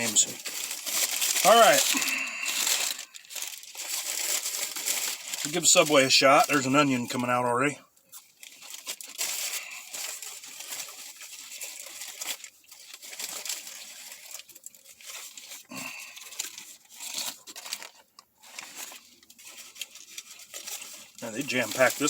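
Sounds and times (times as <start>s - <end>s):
paper wrapper crinkling and tearing: 0.0s - 22.0s.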